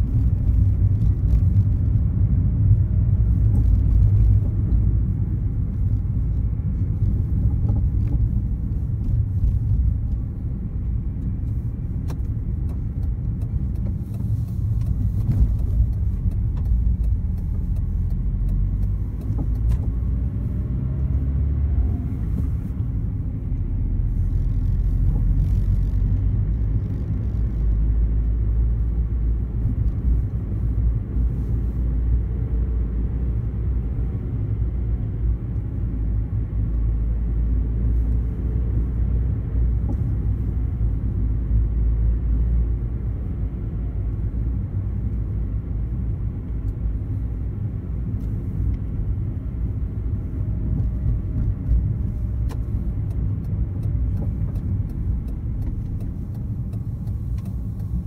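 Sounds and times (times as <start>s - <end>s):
car engine rumble: 0.0s - 58.0s
tyres on the road: 0.0s - 58.0s.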